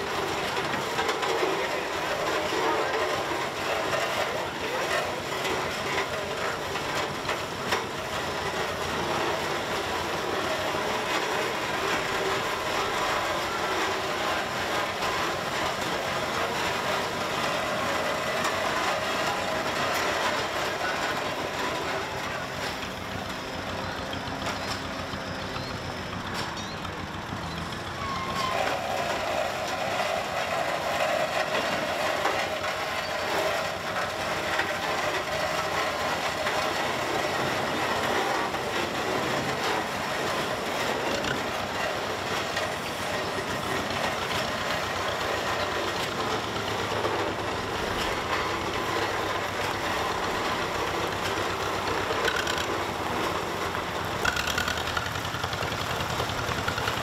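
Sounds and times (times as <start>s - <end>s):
faint voices: 0.0s - 57.0s
steam traction engine running: 0.0s - 57.0s.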